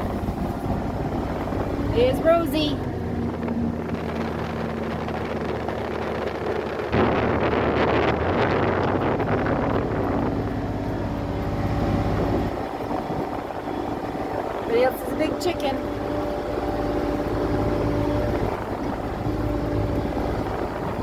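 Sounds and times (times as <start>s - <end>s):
utility vehicle engine running: 0.0s - 21.0s.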